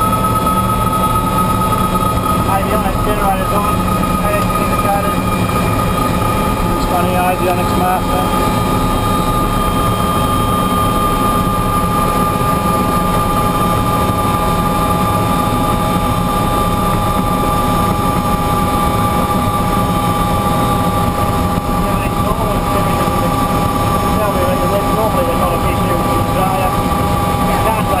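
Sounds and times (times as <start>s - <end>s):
helicopter engine whine: 0.0s - 28.0s
helicopter rotor beating: 0.0s - 28.0s.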